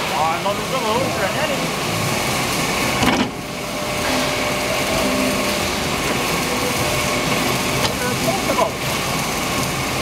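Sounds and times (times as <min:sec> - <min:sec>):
plate rolling machine running: 0:00.0 - 0:10.0.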